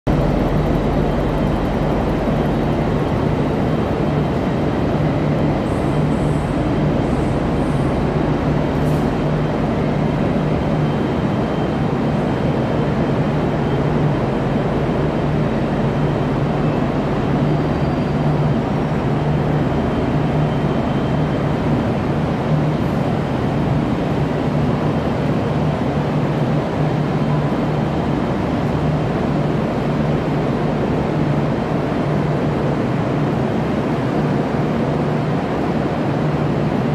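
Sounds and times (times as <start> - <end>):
diesel locomotive engine droning: 0.1 - 36.9.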